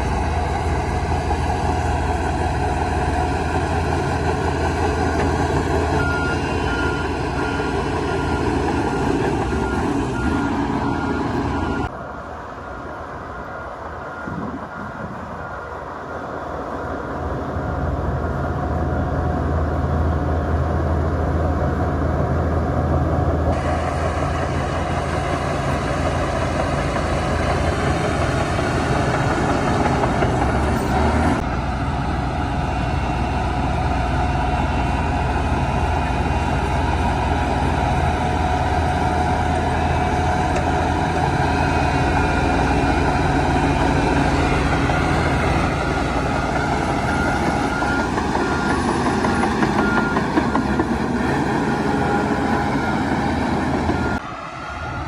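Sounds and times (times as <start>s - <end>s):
heavy diesel machinery engine drone: 0.0s - 55.0s.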